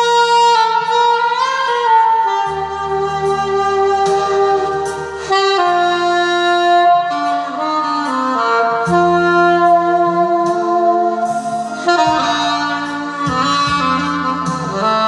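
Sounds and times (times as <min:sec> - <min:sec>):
saxophone slow melody: 0:00.0 - 0:15.0
sustained backing accompaniment: 0:00.0 - 0:15.0.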